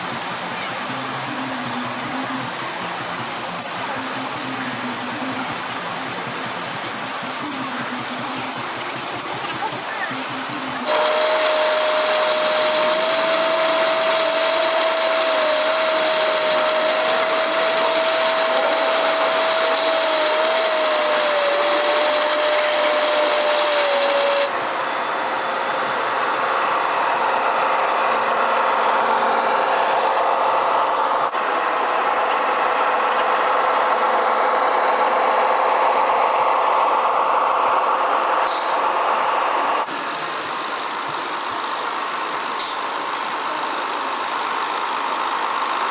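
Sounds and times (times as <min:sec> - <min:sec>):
small electric motors whirring: 0:00.2 - 0:39.9.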